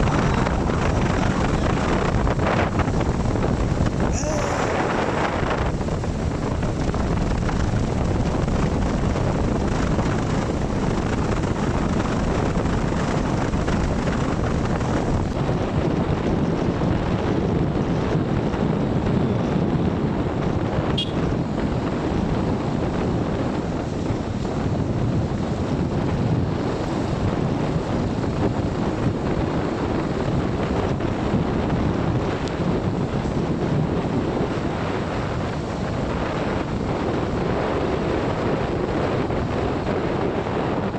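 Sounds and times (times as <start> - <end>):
vehicle road noise: 0.0 - 40.9
wind rumbling on microphone: 0.0 - 40.9.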